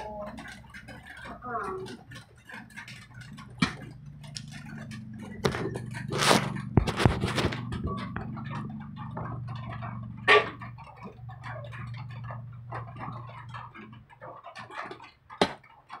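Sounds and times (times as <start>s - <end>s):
steady low hum: 0.0s - 15.6s
small clicks on plastic plate: 0.0s - 16.0s.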